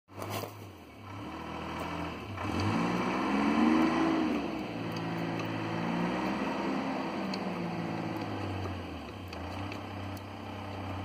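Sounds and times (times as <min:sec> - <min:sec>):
engine running: 0:00.1 - 0:11.0.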